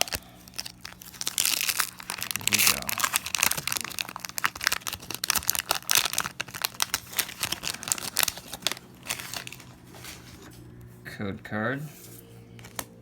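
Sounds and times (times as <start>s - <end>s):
foil wrapper tearing and crinkling: 0.0s - 10.6s.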